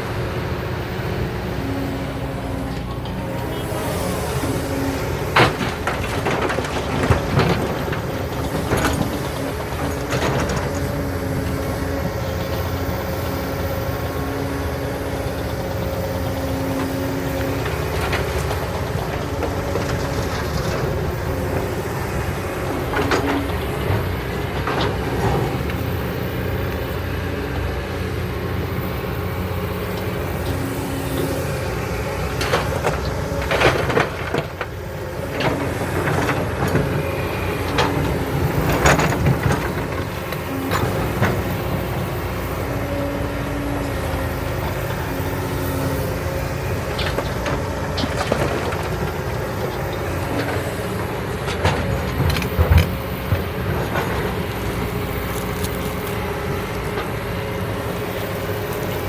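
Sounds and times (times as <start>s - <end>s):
heavy diesel engines running: 0.0s - 59.0s.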